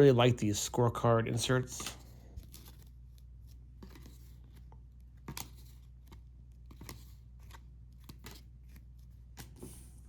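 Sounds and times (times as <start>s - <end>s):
cards clicking and sliding: 1.7s - 9.9s.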